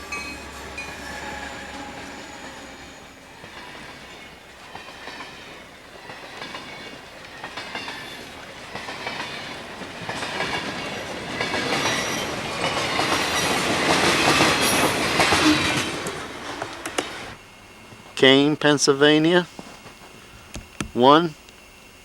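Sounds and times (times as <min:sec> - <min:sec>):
freight train wheels clacking: 0:00.0 - 0:18.2.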